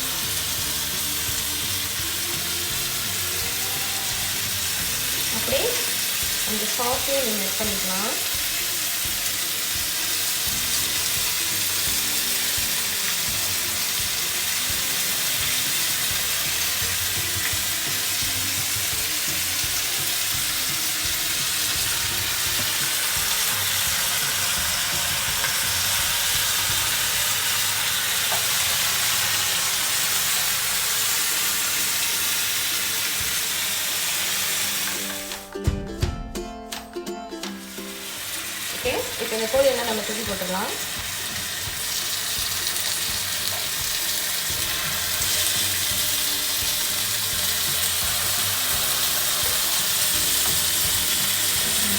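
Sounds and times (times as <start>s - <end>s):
chicken sizzling in a pan: 0.0s - 35.5s, 37.6s - 51.9s.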